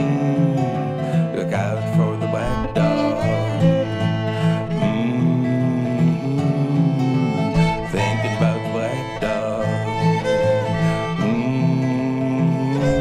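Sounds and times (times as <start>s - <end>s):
fiddle melody: 0.0s - 13.0s
resonator guitar rhythm: 0.0s - 13.0s.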